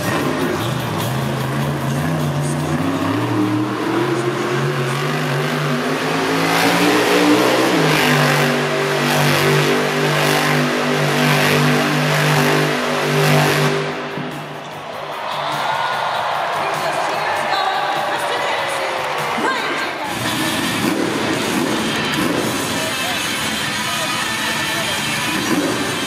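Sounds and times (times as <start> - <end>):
truck engine revving: 0.0 - 15.0, 19.0 - 26.0.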